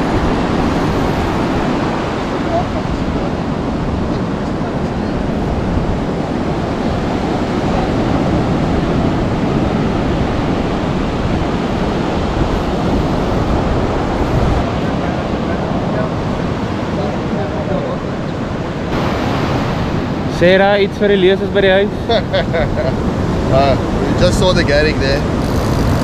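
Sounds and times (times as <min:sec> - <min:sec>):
surf breaking on beach: 0:00.0 - 0:25.6
wind on microphone: 0:00.0 - 0:26.0.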